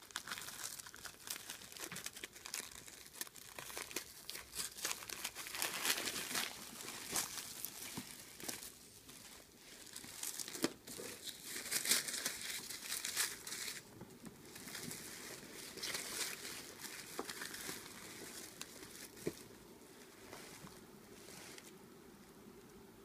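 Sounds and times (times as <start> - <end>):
paper and cloth rustling: 1.7 - 21.7.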